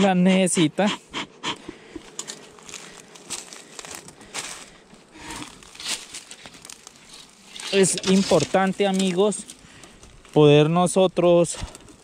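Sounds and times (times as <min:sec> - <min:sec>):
dry crinkling and crackling: 0:01.7 - 0:12.0.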